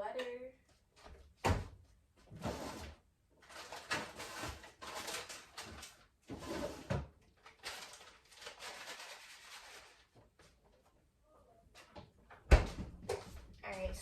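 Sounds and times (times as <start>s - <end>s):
kitchen items rustling and clattering: 0.9s - 11.0s, 11.6s - 14.0s.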